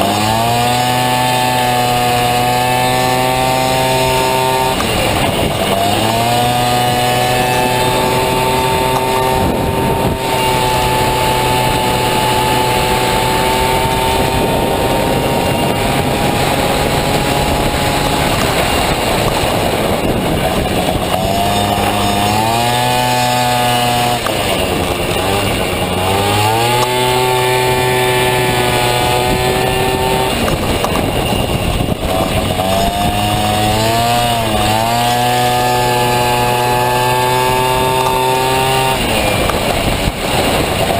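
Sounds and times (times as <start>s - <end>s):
scooter engine at high revs: 0.0s - 40.9s.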